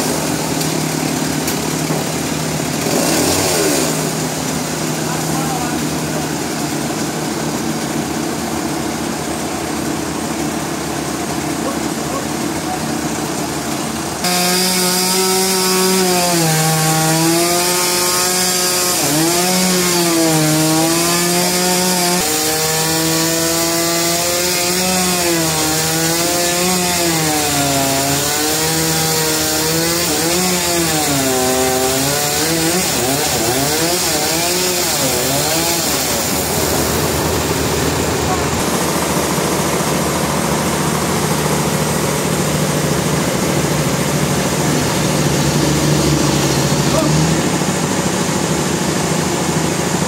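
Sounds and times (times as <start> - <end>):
engine-driven saw cutting timber: 0.0 - 50.0.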